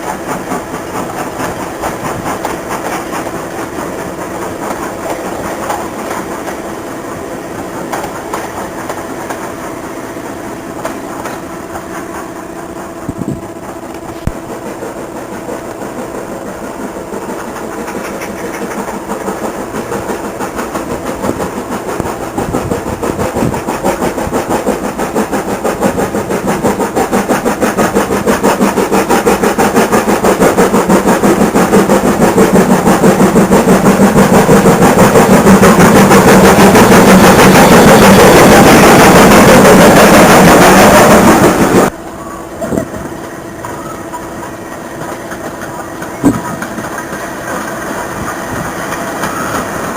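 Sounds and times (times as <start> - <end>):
steam train running: 0.0 - 49.9.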